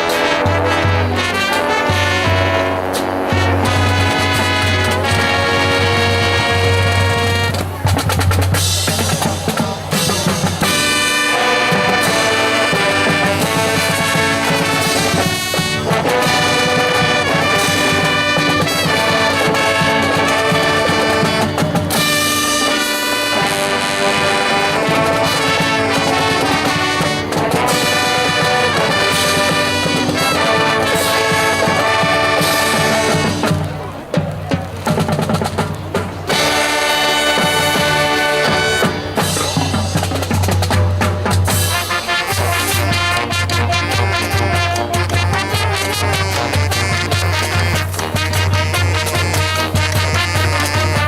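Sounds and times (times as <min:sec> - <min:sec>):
drums: 0:00.0 - 0:51.0
marching brass band playing: 0:00.0 - 0:51.0.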